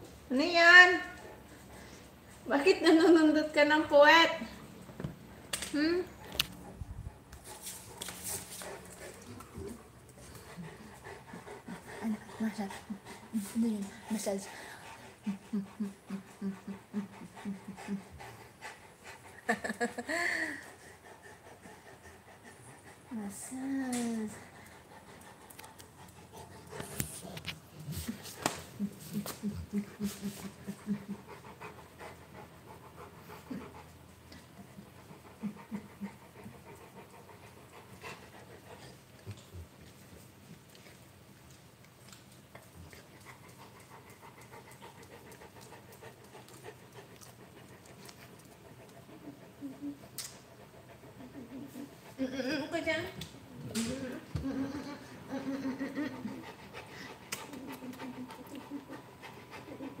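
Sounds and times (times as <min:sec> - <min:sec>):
dog panting: 0:00.3 - 0:04.6, 0:06.1 - 1:00.0.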